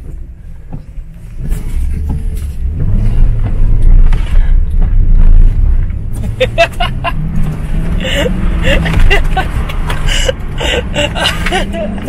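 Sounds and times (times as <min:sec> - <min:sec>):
truck engine revving: 0:01.4 - 0:12.0.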